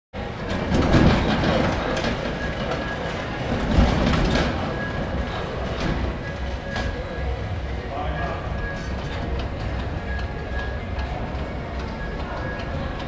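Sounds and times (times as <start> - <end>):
roller coaster cars rumbling on track: 0.2 - 13.0.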